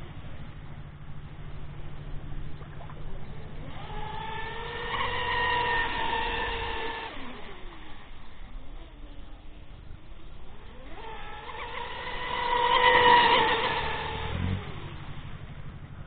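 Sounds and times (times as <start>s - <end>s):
high electric motor whine: 0.0s - 16.0s.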